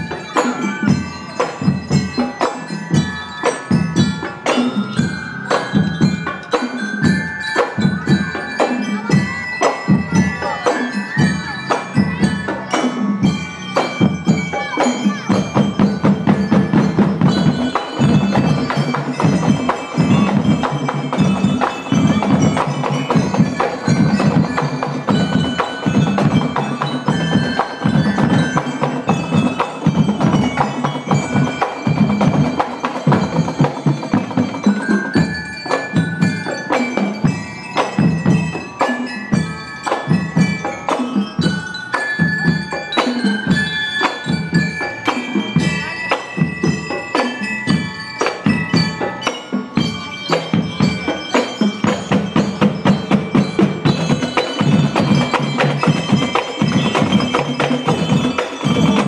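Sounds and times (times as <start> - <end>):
bell lyres playing melody: 0.0 - 59.0
marching drums beat: 0.0 - 59.0.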